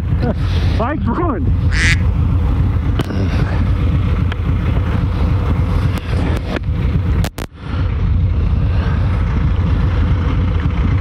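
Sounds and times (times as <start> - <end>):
motorcycles idling: 0.0 - 11.0.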